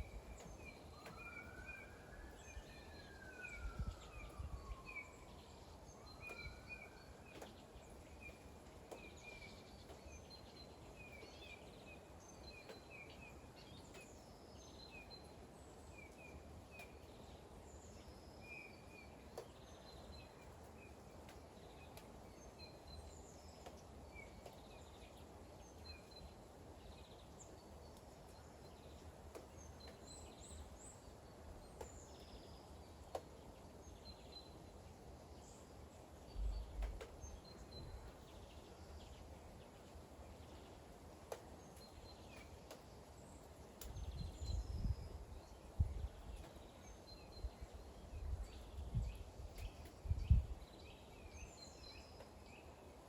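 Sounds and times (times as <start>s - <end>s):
faint rain: 0.0s - 53.0s.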